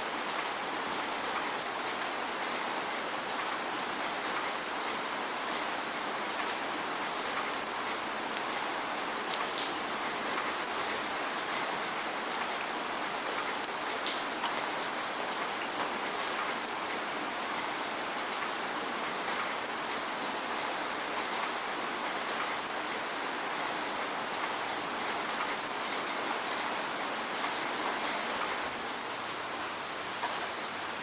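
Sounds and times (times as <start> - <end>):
raindrops ticking on surface: 0.0 - 31.0
rain hissing: 4.6 - 31.0.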